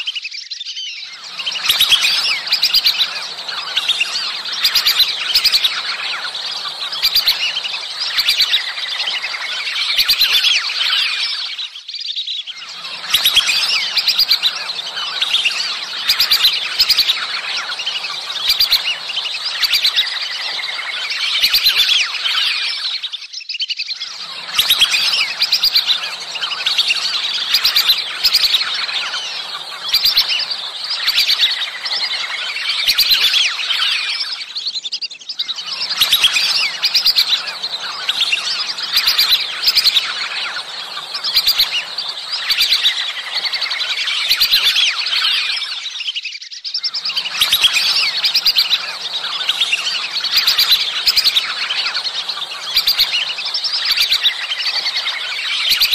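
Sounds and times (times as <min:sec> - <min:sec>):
whistling ducks calling: 0:00.0 - 0:55.9.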